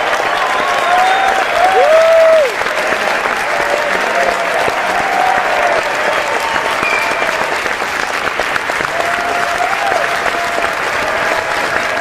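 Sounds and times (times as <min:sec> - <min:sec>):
crowd applauding: 0:00.0 - 0:12.0
voices cheering: 0:00.0 - 0:12.0.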